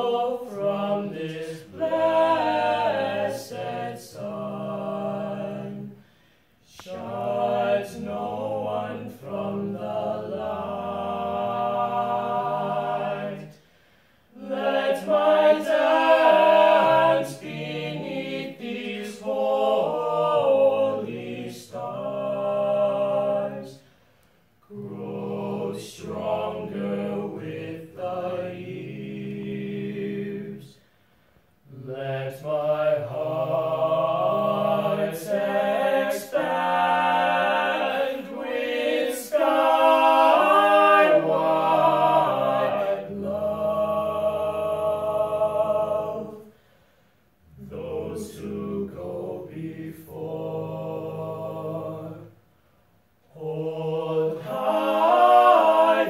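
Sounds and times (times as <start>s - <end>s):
men singing a cappella in harmony: 0.0s - 23.9s, 24.6s - 31.0s, 31.6s - 46.8s, 47.4s - 52.4s, 53.3s - 56.0s.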